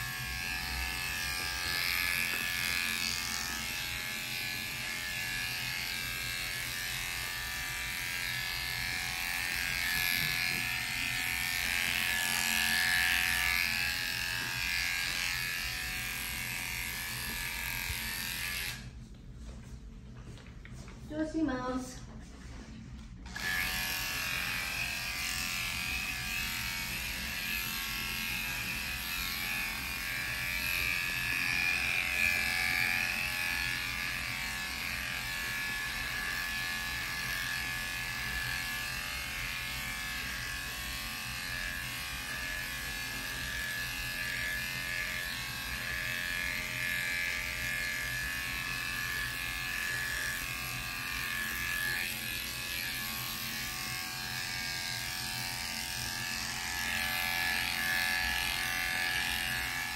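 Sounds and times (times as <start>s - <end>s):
electric clippers humming: 0.0s - 19.0s, 23.2s - 59.9s.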